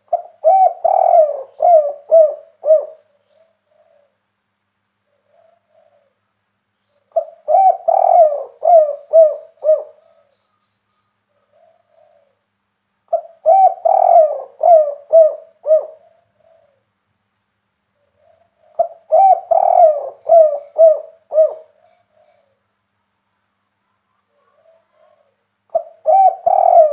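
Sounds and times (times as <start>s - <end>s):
dove cooing: 0.0s - 4.3s, 5.0s - 6.3s, 6.9s - 10.6s, 11.3s - 12.5s, 13.1s - 17.0s, 18.0s - 22.7s, 24.2s - 26.9s.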